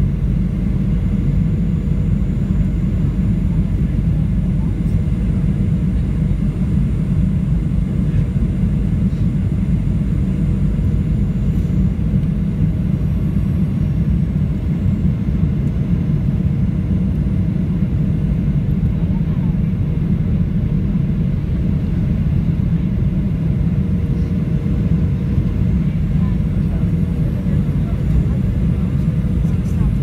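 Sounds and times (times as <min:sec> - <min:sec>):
jet engine rumble in cabin: 0:00.0 - 0:30.0.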